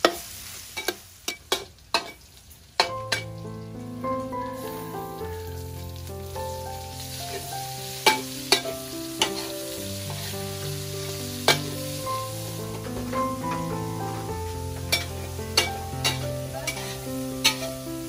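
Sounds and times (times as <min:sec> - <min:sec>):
meat sizzling in a wok: 0:00.0 - 0:18.0
soft background music: 0:02.9 - 0:18.0.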